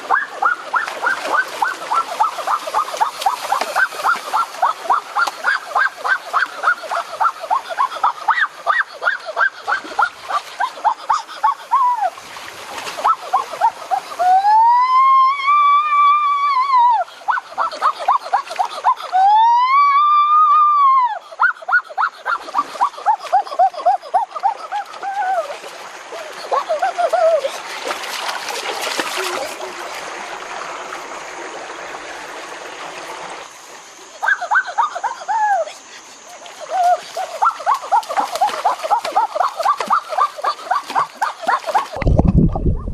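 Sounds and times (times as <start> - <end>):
river water running and splashing: 0.0 - 42.3.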